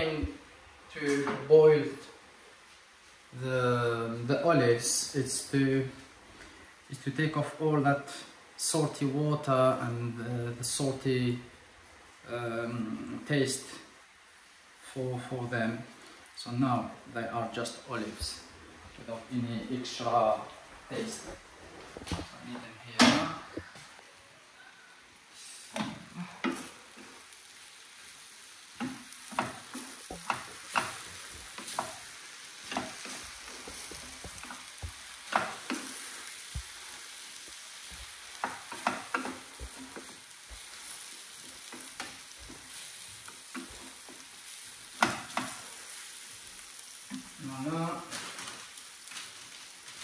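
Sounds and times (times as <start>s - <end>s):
food sizzling in frying pan: 0.0s - 50.0s.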